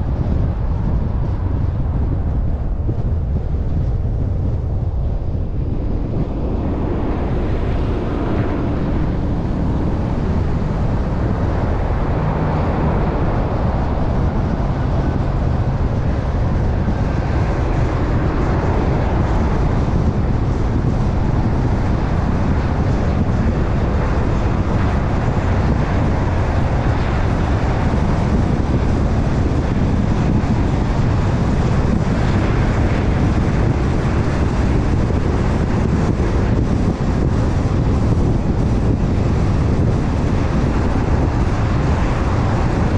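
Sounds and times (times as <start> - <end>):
car tyre and engine noise: 0.0 - 42.9.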